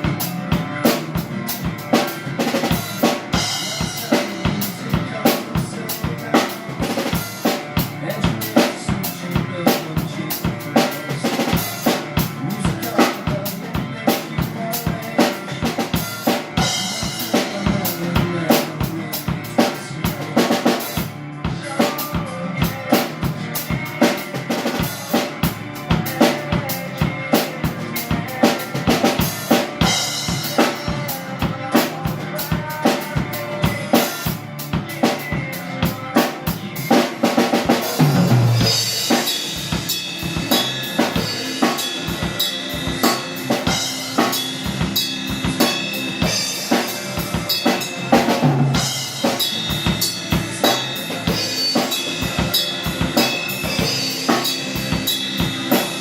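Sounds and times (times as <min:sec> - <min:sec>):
drum kit rock groove: 0:00.0 - 0:56.0
rock band playing: 0:00.0 - 0:56.0.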